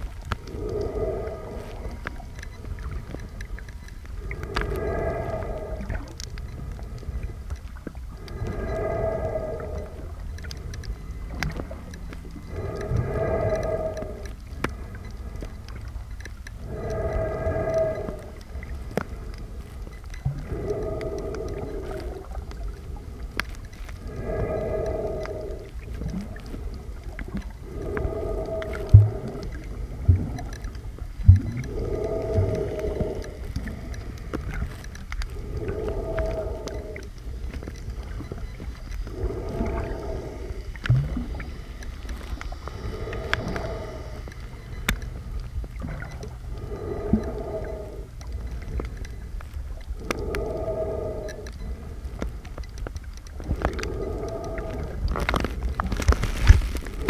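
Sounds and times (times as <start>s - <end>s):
water surging against hull: 0.0s - 57.0s.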